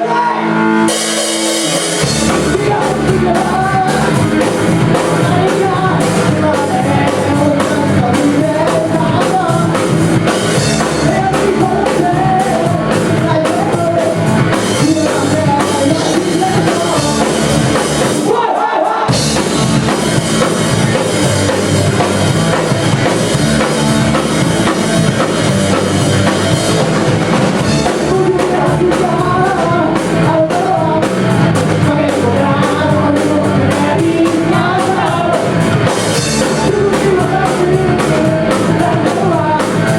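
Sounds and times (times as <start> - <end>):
person singing: 0.0 - 26.9, 27.5 - 39.9
drum kit: 0.0 - 39.9
live rock band playing: 0.0 - 39.9.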